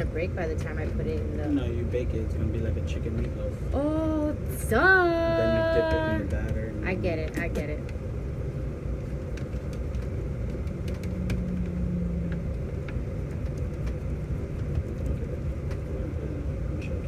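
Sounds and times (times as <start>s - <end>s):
low hum: 0.0s - 17.0s
low mechanical rumble: 0.0s - 17.0s.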